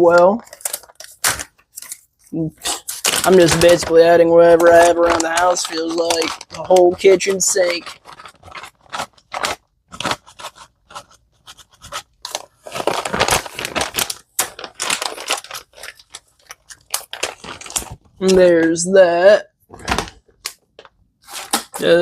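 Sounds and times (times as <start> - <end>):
bacon bits scraping and crunching: 0.4 - 18.0.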